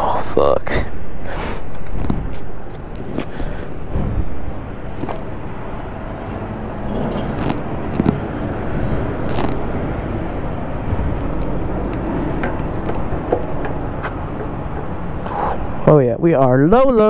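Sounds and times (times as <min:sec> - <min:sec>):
wind noise on microphone: 0:00.7 - 0:15.8.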